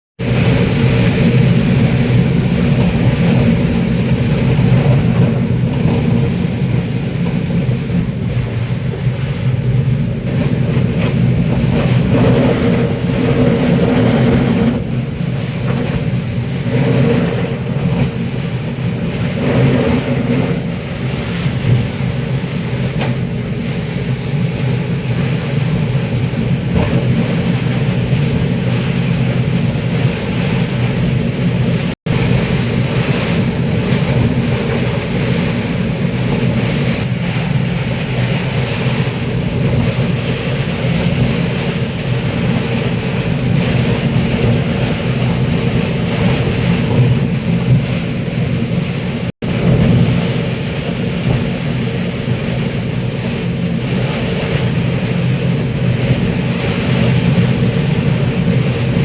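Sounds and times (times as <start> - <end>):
heavy rain pouring: 0.2 - 59.0.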